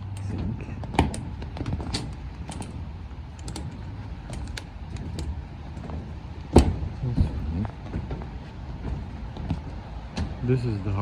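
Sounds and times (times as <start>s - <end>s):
footsteps crunching on debris: 0.4s - 10.4s.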